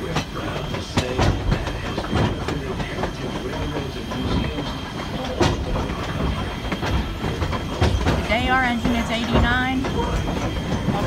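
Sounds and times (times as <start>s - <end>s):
train rumble: 0.0s - 11.0s
train wheels clicking over rail joints: 0.0s - 11.0s.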